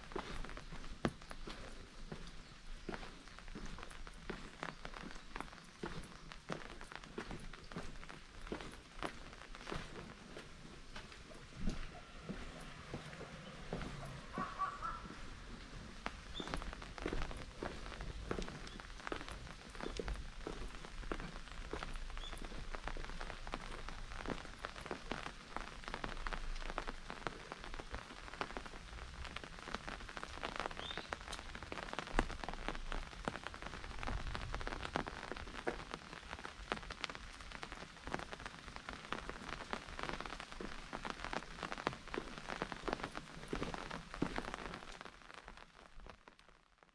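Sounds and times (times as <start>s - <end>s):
hiss of rainfall: 0.0s - 46.6s
rain drops pattering: 0.0s - 46.9s.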